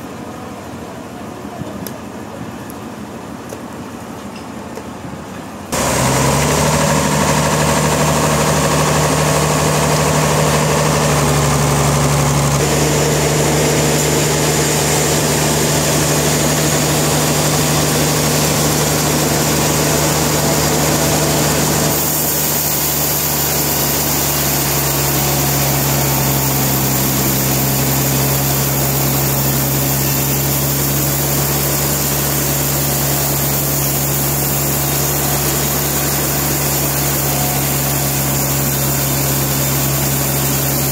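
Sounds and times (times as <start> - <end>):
sawmill machinery droning: 5.6 - 40.9.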